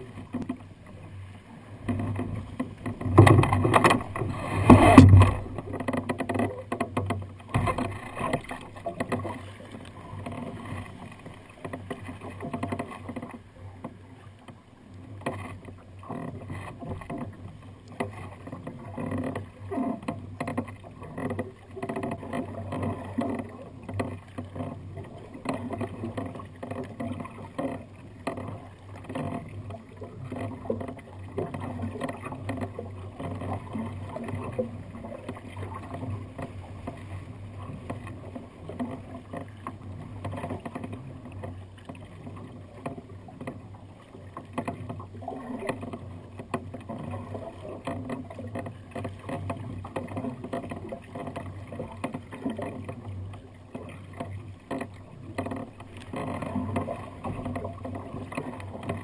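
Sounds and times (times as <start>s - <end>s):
small splashes and knocks: 0.0s - 59.0s
water sloshing against kayak hull: 0.0s - 59.0s.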